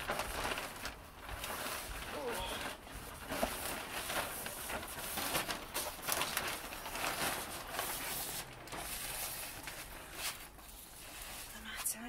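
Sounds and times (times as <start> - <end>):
plastic sheet rustling: 0.0 - 12.0.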